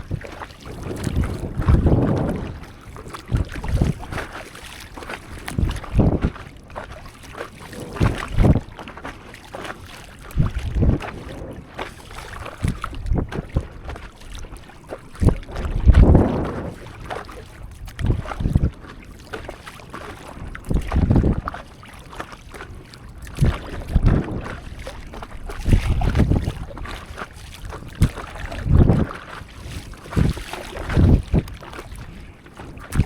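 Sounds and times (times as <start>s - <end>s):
paddle splashing in water: 0.0s - 33.0s
wind on microphone: 0.0s - 33.0s.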